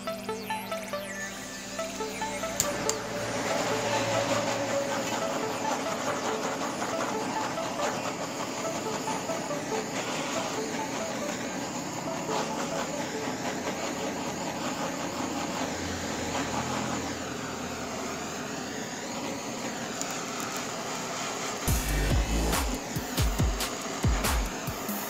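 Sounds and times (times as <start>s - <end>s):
blowtorch flame hissing: 0.0s - 25.0s.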